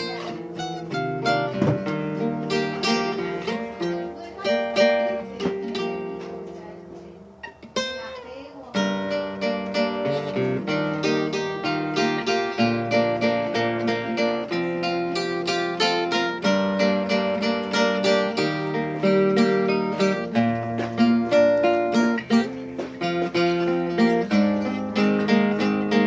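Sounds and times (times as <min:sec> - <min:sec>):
classical guitar plucking: 0:00.0 - 0:26.0.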